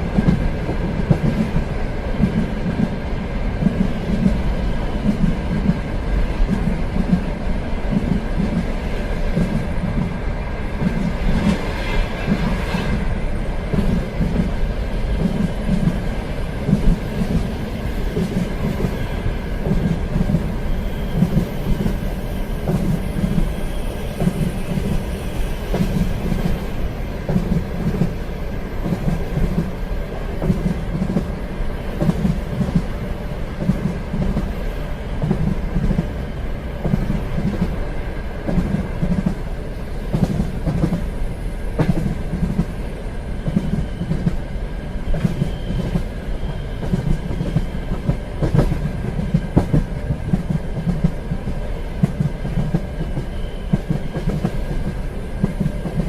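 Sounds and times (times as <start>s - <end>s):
train wheels over rail joints: 0.0s - 56.0s.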